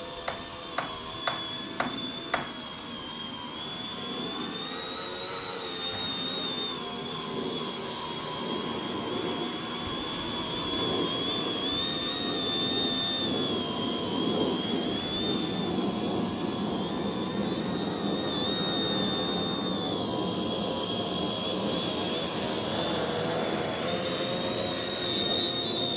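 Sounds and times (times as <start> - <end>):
drone motors whining: 0.0 - 25.9
propeller buzz: 0.0 - 25.9.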